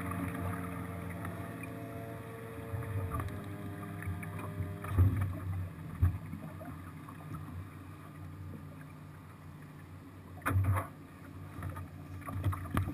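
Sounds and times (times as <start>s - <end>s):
outboard motor idling: 0.0s - 12.9s.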